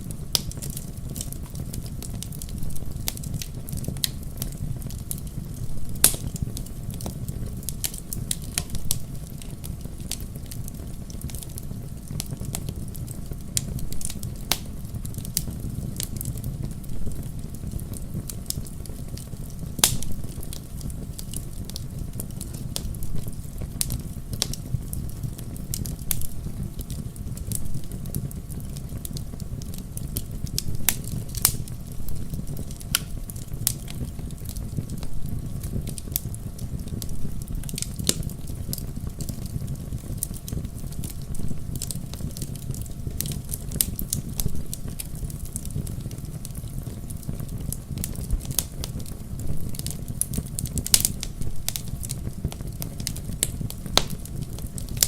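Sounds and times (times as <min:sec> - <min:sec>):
low rumble of flame: 0:00.0 - 0:55.0
wood fire crackling: 0:00.0 - 0:55.0.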